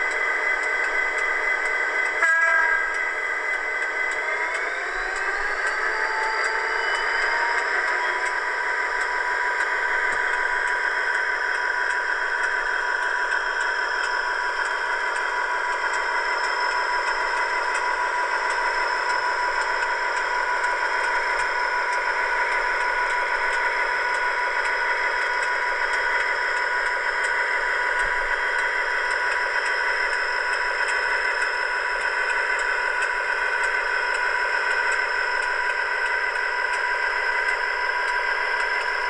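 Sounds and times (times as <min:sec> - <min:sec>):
diesel engine sound from tiny speaker: 0:00.0 - 0:39.0.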